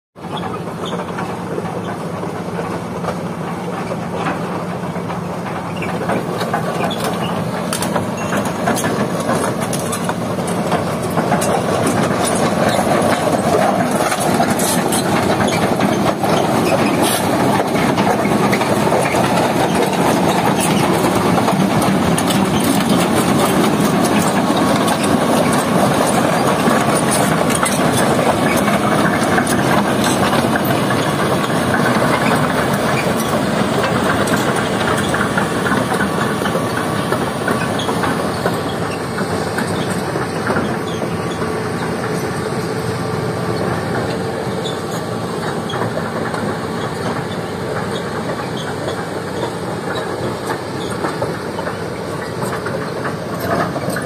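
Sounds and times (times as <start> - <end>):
diesel engine running: 0.2 - 54.0.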